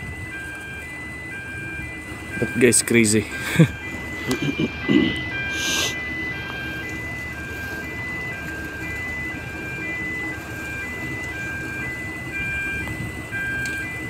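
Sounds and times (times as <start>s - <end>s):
electronic chime beeping tune: 0.0s - 14.0s
steady low rumble: 0.0s - 14.0s.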